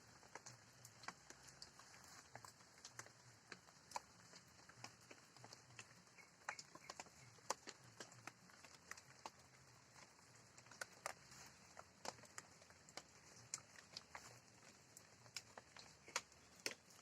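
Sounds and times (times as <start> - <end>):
light rain dripping: 0.0 - 17.0.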